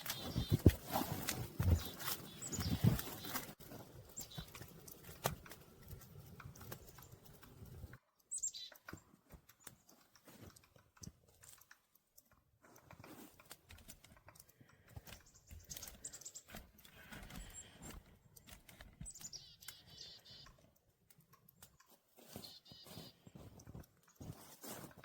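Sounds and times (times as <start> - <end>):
crunching and snapping clicks: 0.0 - 25.0.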